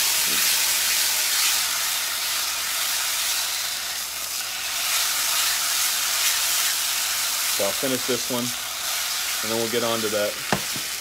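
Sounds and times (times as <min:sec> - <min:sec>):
steak sizzling in a skillet: 0:00.0 - 0:11.0.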